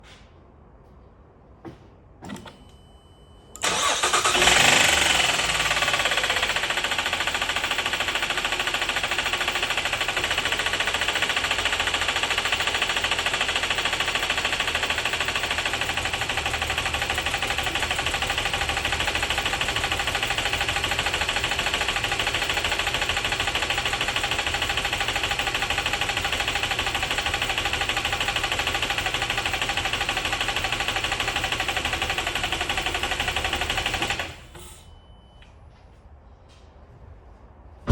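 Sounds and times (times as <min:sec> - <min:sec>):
car engine knocking: 0:03.6 - 0:34.4.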